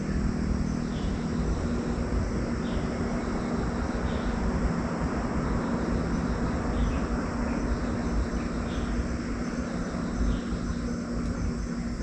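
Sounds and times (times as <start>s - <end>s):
low hum: 0.0s - 12.0s
rumble: 0.0s - 12.0s.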